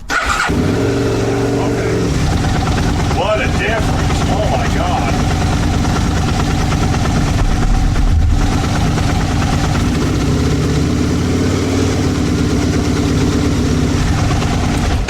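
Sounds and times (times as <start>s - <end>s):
motorcycle engine running: 0.4s - 15.0s.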